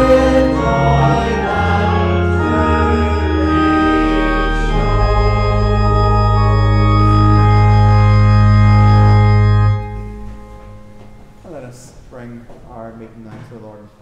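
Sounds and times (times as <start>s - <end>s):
church organ chords: 0.0s - 12.6s.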